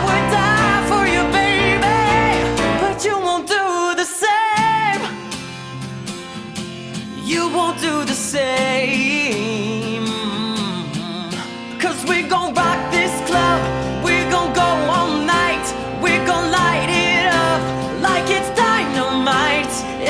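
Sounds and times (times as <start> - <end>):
person singing: 0.0 - 5.3, 7.1 - 20.0
acoustic guitar: 0.0 - 20.0.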